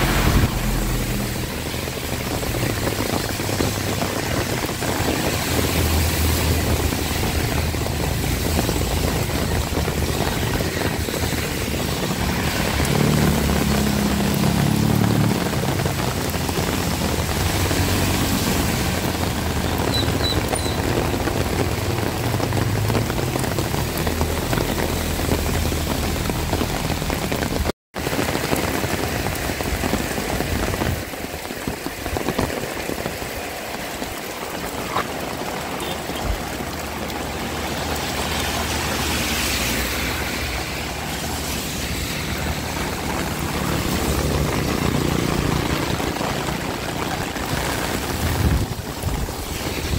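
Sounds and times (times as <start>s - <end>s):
vehicle engine humming: 0.0s - 27.5s, 34.6s - 49.0s
heavy rain falling: 0.0s - 49.9s.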